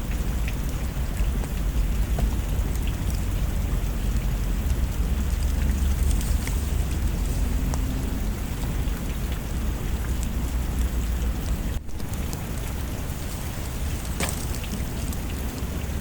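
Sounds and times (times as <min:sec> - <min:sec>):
deep low rumble: 0:00.0 - 0:16.0
heavy rain falling: 0:00.1 - 0:16.0.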